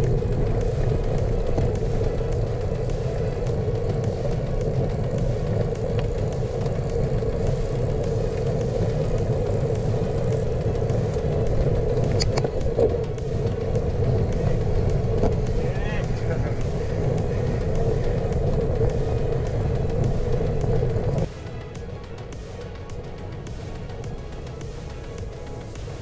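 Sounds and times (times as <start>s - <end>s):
wind noise: 0.0s - 21.3s
bicycle tyre rumble: 0.0s - 26.0s.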